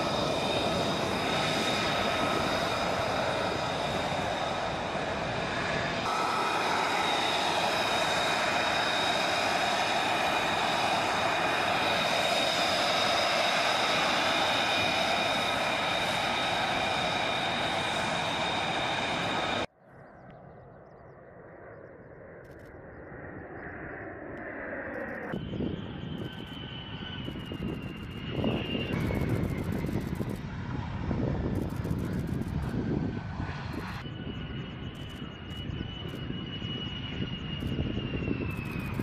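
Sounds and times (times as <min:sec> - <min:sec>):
approaching jet aircraft: 0:00.0 - 0:39.0
jet engine whine: 0:00.0 - 0:39.0.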